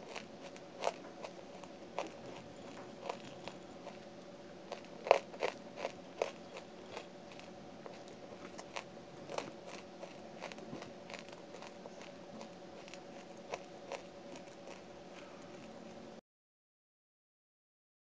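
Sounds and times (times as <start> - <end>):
chewing crunchy clay: 0.0 - 16.1
faint steady hum: 0.0 - 16.2.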